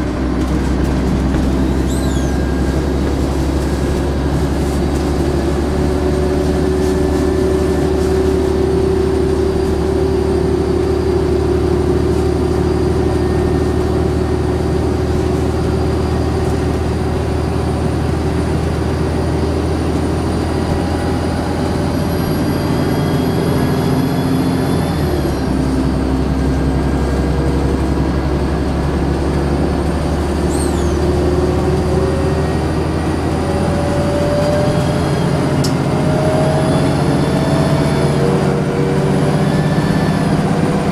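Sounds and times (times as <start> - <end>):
diesel bus engine pulling: 0.0 - 40.9.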